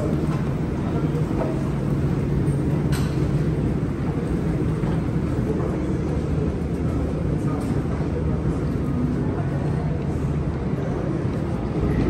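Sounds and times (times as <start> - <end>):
metro station rumble: 0.0 - 12.0.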